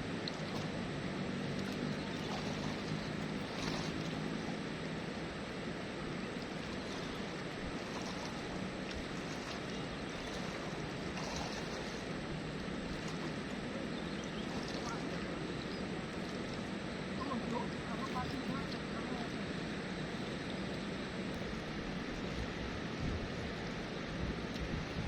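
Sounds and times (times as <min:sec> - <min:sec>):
river water rushing: 0:00.0 - 0:20.4
faint low hum: 0:00.0 - 0:25.0.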